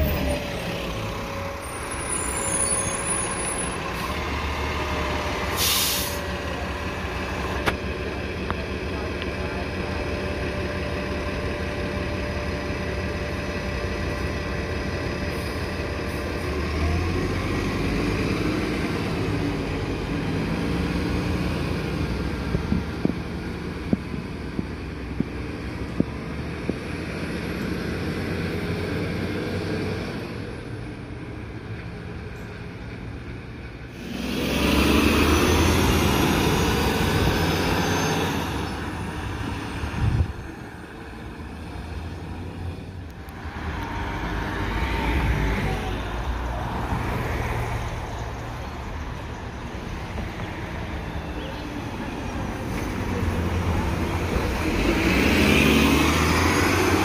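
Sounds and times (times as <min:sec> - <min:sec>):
buses and traffic passing: 0:00.0 - 0:57.0.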